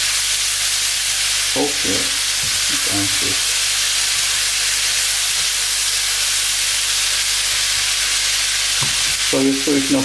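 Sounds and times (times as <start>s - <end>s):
chicken frying in a pan: 0.0s - 10.0s.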